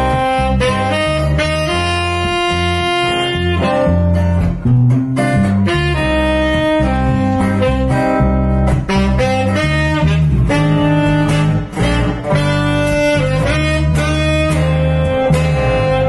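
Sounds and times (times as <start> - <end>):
acoustic guitar accompaniment: 0.0 - 16.0
electric bass line: 0.0 - 16.0
tenor saxophone melody: 0.0 - 16.0.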